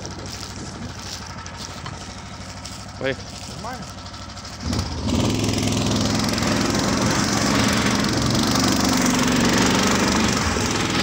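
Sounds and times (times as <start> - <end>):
tracked vehicle engine running: 0.0 - 11.0.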